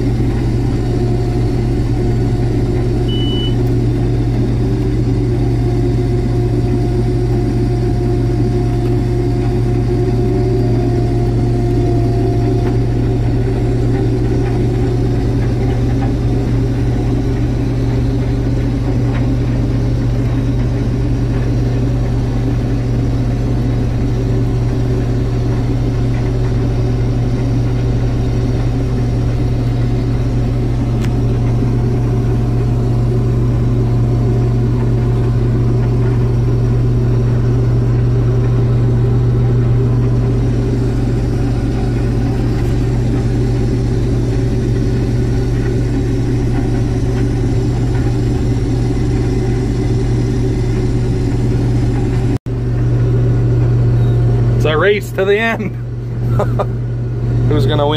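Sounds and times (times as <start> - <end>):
combine harvester drone: 0.0 - 57.9.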